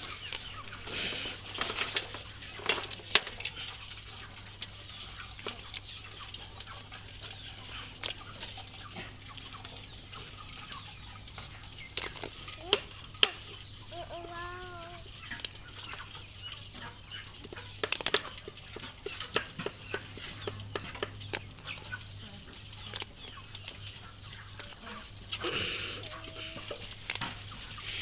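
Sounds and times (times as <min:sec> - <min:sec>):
crabs tapping on metal basin: 0:00.0 - 0:27.6.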